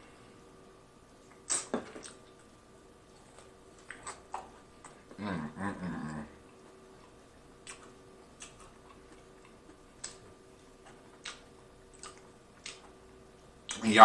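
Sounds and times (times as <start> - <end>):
faint steady hum: 0.0 - 14.0
quiet chewing with mouth clicks: 1.2 - 5.2, 5.8 - 13.8.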